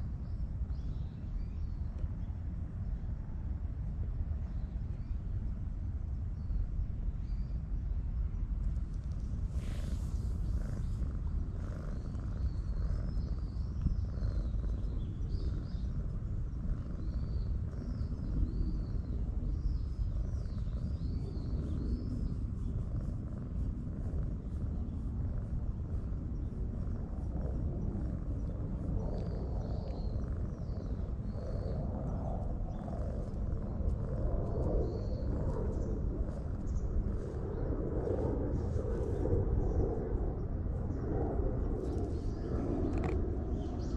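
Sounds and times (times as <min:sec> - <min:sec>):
small birds chirping: 0:06.2 - 0:39.8, 0:40.4 - 0:43.9.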